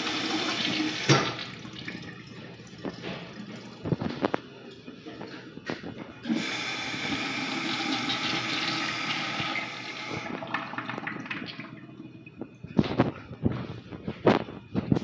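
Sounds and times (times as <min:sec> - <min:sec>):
urinal flushing: 0:00.0 - 0:04.7, 0:06.2 - 0:13.6.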